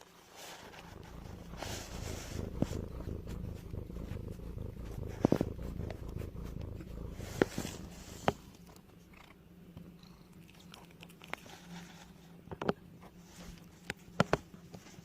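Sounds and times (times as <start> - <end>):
cat purring: 0.4 - 12.5.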